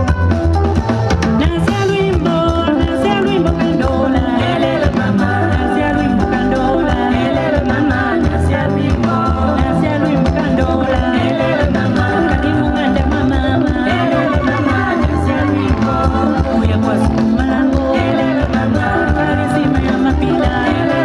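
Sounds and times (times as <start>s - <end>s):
drums: 0.0s - 21.0s
women singing dance song: 1.4s - 21.0s.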